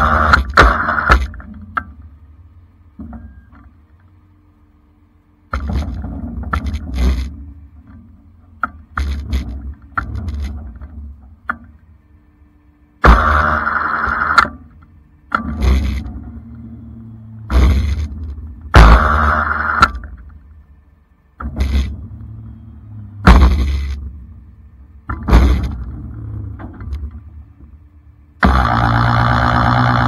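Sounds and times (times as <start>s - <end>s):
winch rumbling with faint whine: 0.0s - 30.0s.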